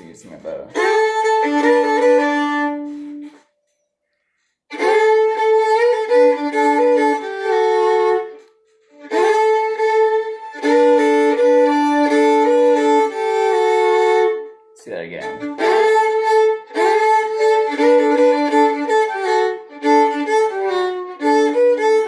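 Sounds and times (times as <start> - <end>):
solo fiddle playing: 0.0 - 3.5, 4.2 - 22.0.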